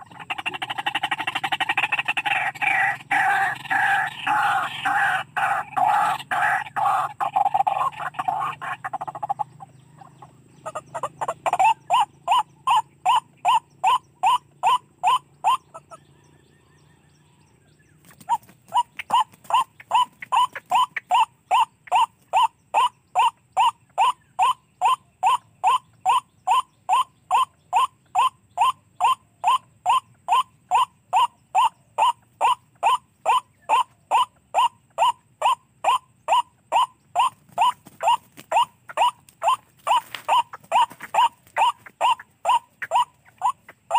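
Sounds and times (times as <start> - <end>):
bird call from radio: 0.0 - 43.9.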